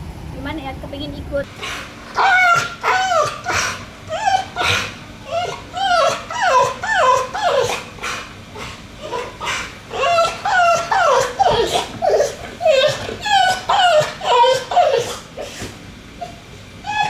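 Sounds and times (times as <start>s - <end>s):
dog whining yelps: 1.6s - 17.0s.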